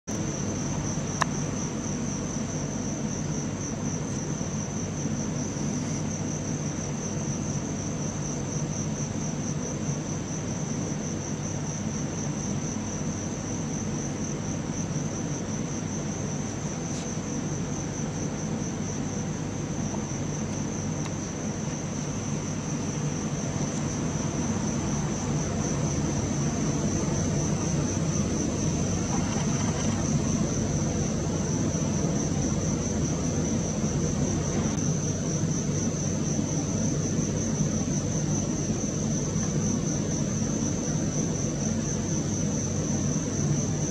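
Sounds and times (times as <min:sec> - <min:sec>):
crickets trilling: 0:00.1 - 0:43.9.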